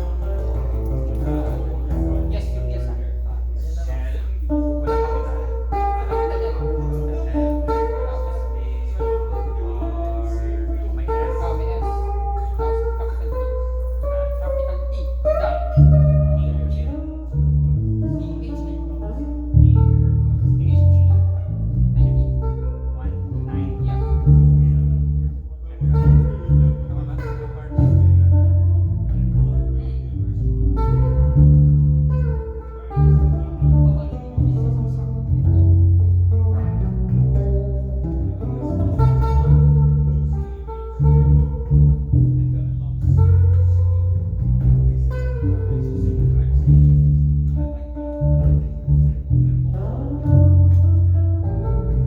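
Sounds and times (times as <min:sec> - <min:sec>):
low bass line: 0:00.0 - 0:52.0
plucked guitar notes: 0:00.0 - 0:52.0.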